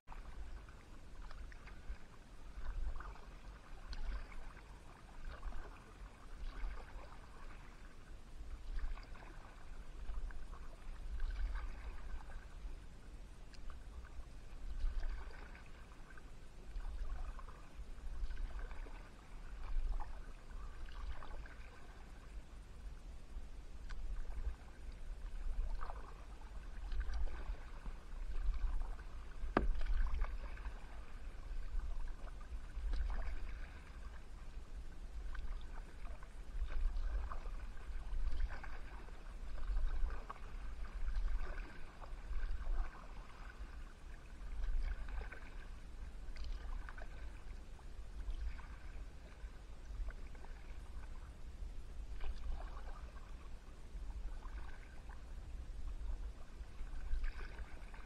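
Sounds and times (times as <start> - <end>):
paddle splashing and dripping: 0.1 - 51.4, 52.0 - 58.0.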